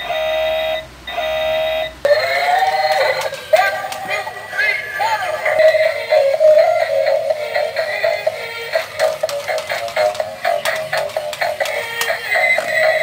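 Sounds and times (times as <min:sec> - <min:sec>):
synthesized song with electronic singing: 0:02.1 - 0:13.0.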